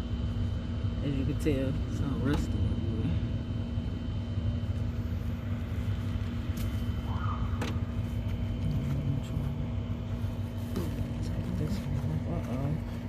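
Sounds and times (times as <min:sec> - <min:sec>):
low rumble with hum: 0:00.0 - 0:13.0.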